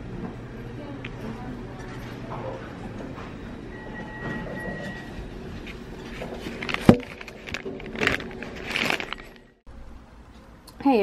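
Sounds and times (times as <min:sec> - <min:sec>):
room background noise: 0:00.0 - 0:11.0.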